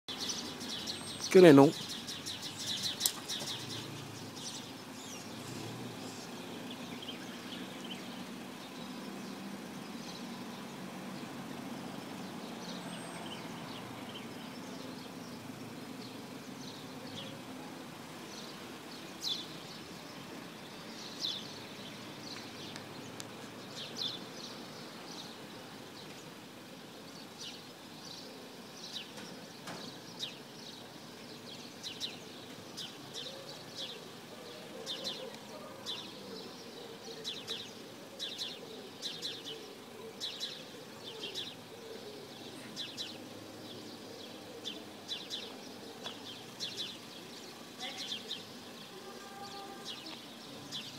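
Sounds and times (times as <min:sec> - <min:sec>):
small birds chirping: 0:00.0 - 0:50.9
faint car engine running: 0:01.8 - 0:50.9.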